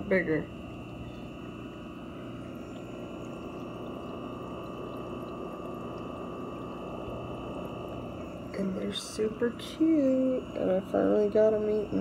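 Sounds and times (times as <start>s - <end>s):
filter hum: 0.0s - 12.0s
trickling water: 0.0s - 12.0s.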